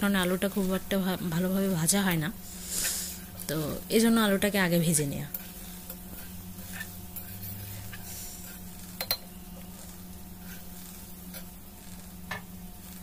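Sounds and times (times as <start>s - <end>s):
potatoes sizzling in oil: 0.0s - 13.0s
steady low hum: 0.0s - 13.0s.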